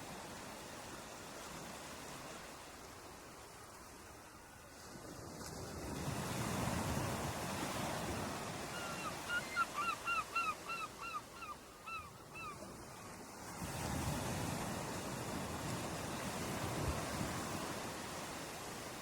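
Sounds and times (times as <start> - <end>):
ocean waves washing on shore: 0.0 - 19.0.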